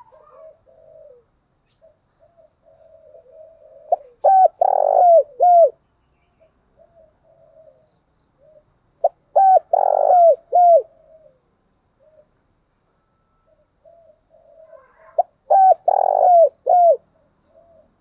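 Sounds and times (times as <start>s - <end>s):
dove cooing: 0.0s - 5.8s, 6.8s - 12.4s, 13.4s - 18.0s.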